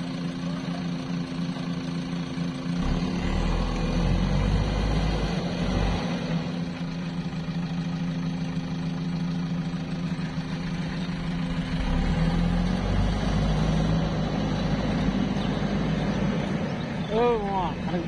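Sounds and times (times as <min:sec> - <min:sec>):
diesel farm machine engine running: 0:00.0 - 0:18.0.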